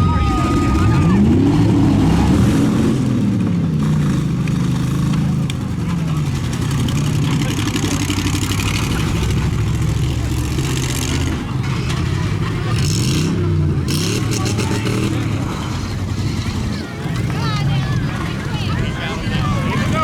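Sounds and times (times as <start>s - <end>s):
pickup truck engines revving: 0.0s - 20.0s.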